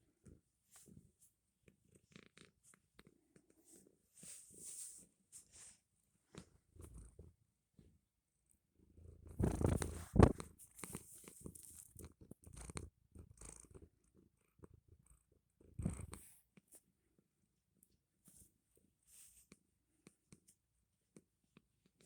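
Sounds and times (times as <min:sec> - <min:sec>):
cat purring: 0:00.0 - 0:08.1, 0:08.8 - 0:18.5.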